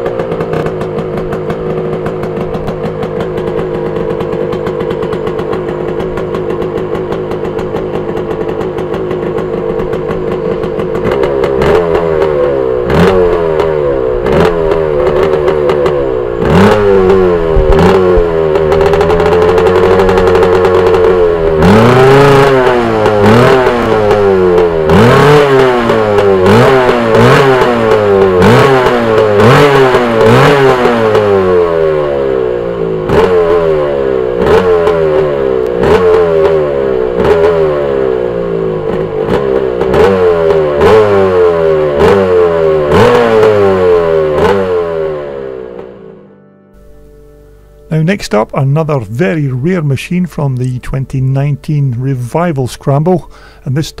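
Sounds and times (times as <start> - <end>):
two-stroke engine idling and revving: 0.0 - 46.2, 48.0 - 54.0.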